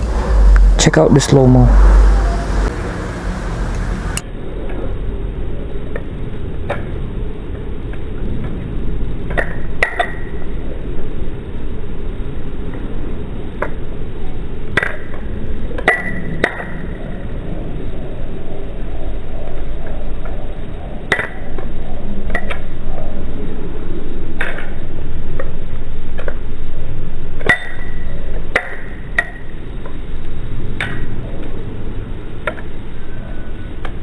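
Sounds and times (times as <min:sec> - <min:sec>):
low background noise: 0:00.0 - 0:34.0.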